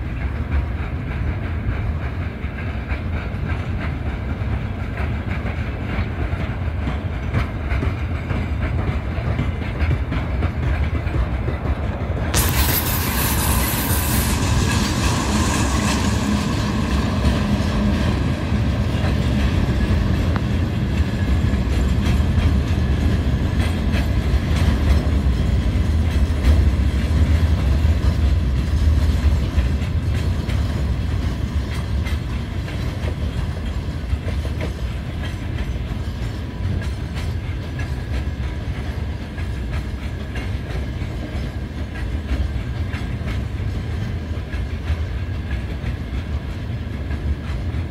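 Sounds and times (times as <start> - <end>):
train wheels rumbling on rail: 0.0 - 47.9
wheels clacking over rail joints: 0.0 - 47.9.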